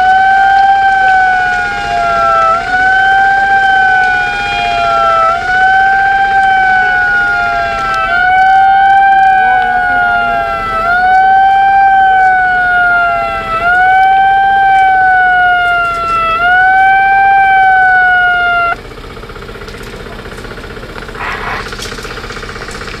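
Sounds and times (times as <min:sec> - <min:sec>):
siren wailing: 0:00.0 - 0:18.8.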